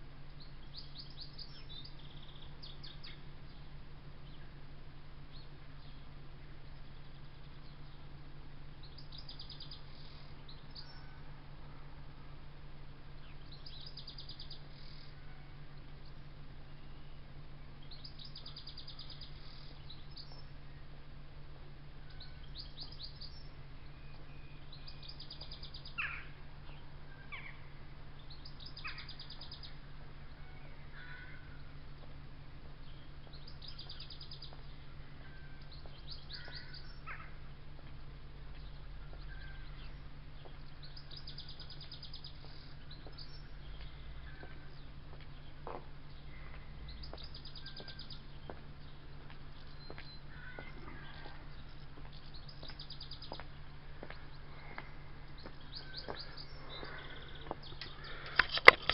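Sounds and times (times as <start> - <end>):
songbirds singing: 0.0 - 58.9
steady low hum: 0.0 - 58.9.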